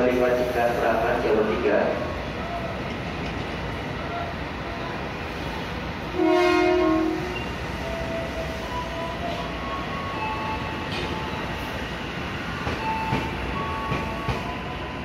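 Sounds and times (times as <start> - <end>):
diesel locomotive running: 0.0 - 15.0.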